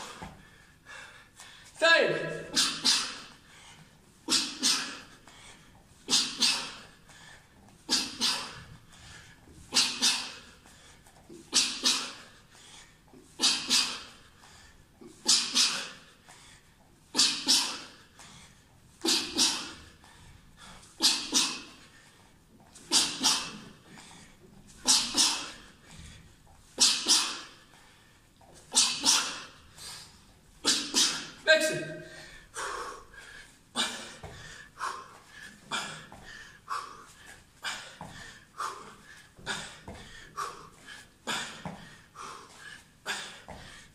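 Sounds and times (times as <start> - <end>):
man breathing hard: 0.0 - 43.9.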